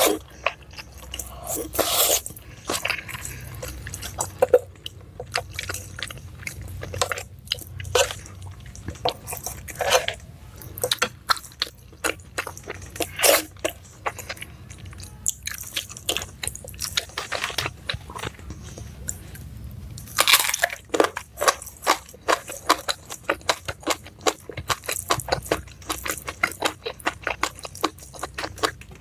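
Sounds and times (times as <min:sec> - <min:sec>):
close chewing: 0:00.0 - 0:29.0.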